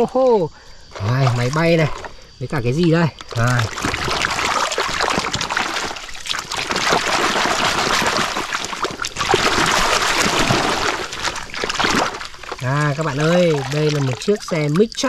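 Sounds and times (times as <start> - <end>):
muddy water splashing and sloshing: 0.6 - 15.0.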